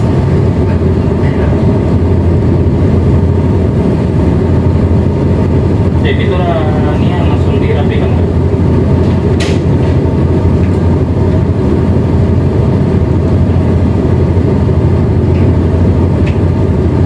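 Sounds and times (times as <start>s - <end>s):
diesel engine low rumble: 0.0s - 17.0s.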